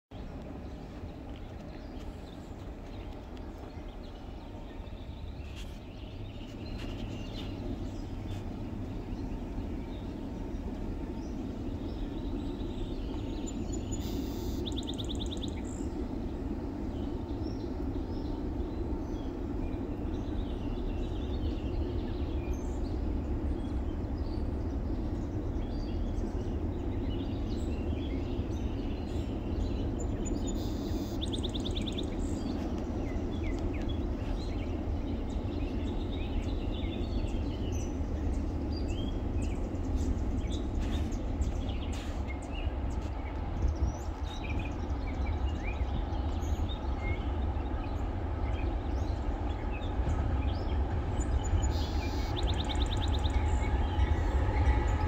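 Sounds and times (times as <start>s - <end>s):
distant diesel locomotives rumbling: 0.1s - 55.0s
songbirds chirping: 0.1s - 55.0s.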